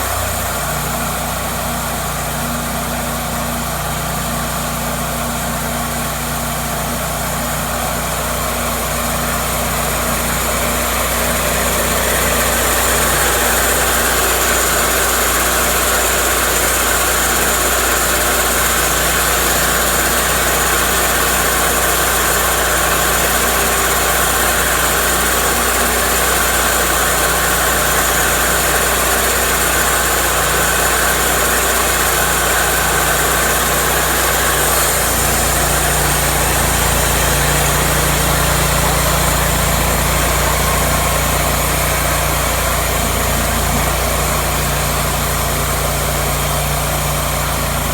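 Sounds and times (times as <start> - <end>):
sawmill engine running: 0.0 - 47.9.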